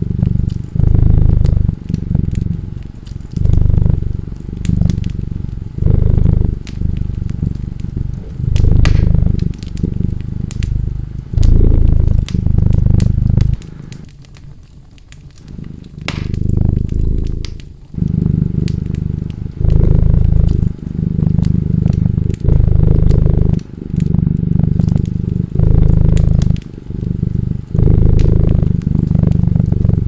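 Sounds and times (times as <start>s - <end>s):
cat purring: 0.0s - 30.0s
fireplace crackling and popping: 0.0s - 30.0s.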